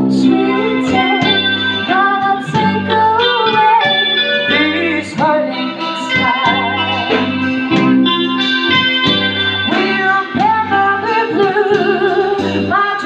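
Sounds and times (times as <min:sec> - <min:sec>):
woman singing: 0:00.0 - 0:08.4, 0:09.6 - 0:13.0
drum kit: 0:00.0 - 0:13.0
electric guitars: 0:00.0 - 0:13.0.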